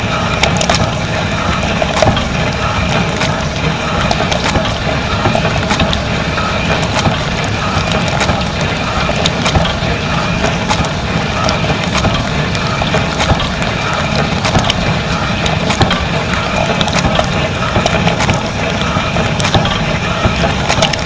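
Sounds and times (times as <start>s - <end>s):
low pump hum: 0.0s - 21.0s
sharp clicks and knocks: 0.0s - 21.0s
water spraying and splashing: 0.0s - 21.0s.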